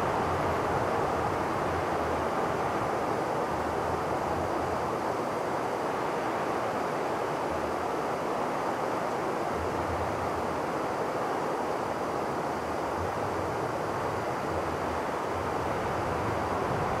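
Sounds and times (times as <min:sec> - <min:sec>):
strong storm wind: 0:00.0 - 0:17.0.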